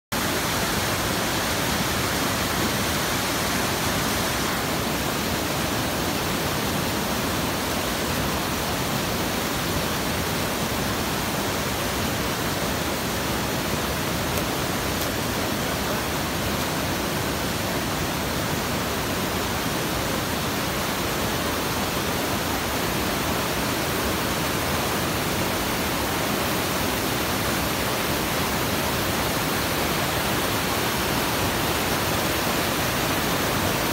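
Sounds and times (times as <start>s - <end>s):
water cascading into pool: 0.1s - 33.9s.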